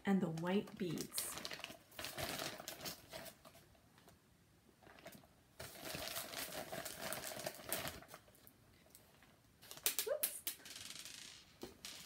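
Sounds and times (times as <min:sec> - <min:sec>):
plastic bag crinkling: 0:00.3 - 0:04.2, 0:04.8 - 0:10.7.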